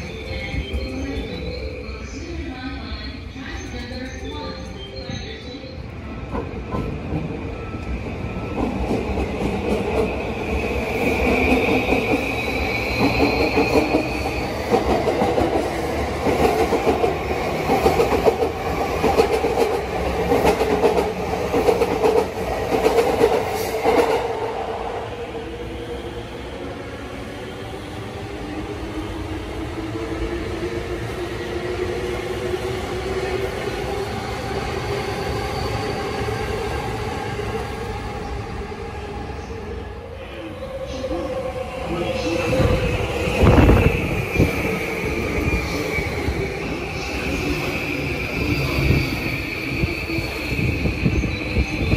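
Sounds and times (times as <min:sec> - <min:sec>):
second train lower motor whine: 0:00.0 - 0:51.9.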